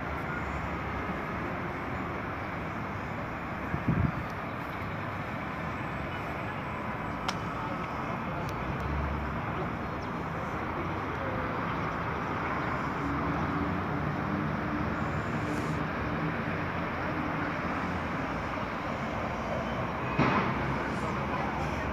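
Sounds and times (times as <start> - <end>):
city traffic noise: 0.0 - 21.9.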